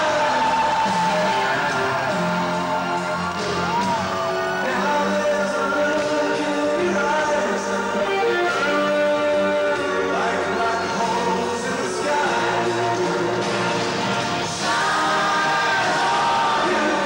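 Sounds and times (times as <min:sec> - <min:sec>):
music with singing: 0:00.0 - 0:17.0.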